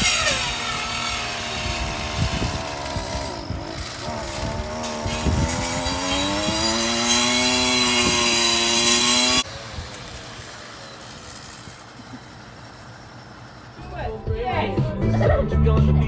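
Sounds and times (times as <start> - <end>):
motor engine revving: 0.0 - 14.3.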